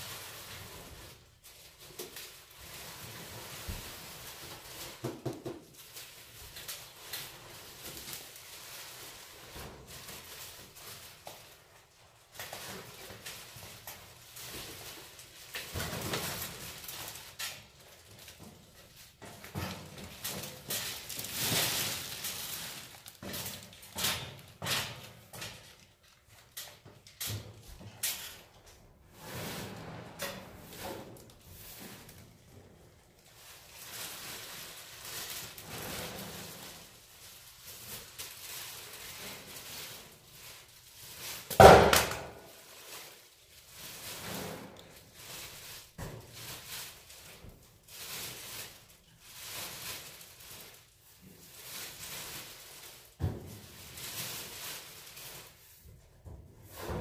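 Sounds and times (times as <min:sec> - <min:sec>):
bags and boxes rustling and scraping: 0:00.0 - 0:57.0.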